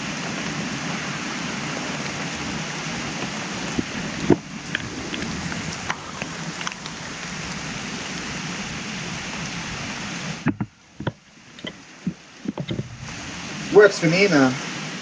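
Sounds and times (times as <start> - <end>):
raindrops ticking on camera: 0.0 - 14.5
rain hissing: 0.0 - 15.0.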